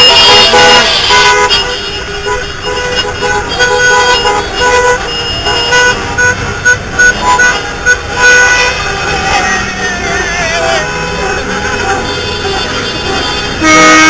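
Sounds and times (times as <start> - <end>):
scooter and car horns honking: 0.0 - 14.0
traffic noise: 0.0 - 14.0.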